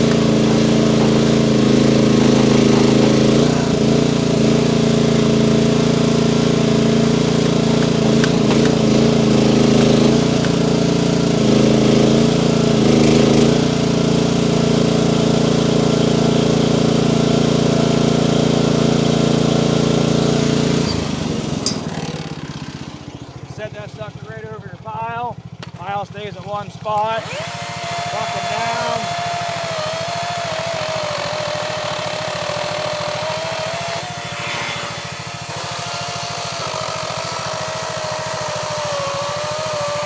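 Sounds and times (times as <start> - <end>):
chainsaw running at high revs: 0.0 - 23.5, 26.5 - 40.0.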